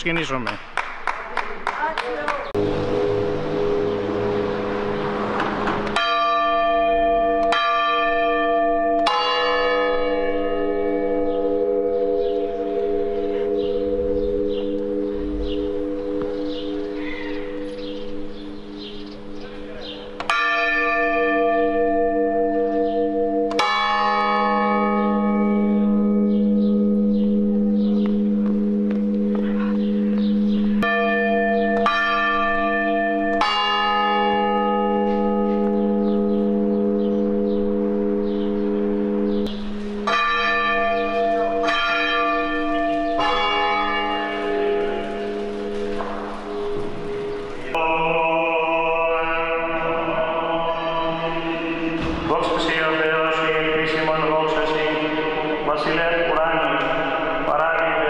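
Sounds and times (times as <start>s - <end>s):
church bell tolling: 2.4s - 58.0s.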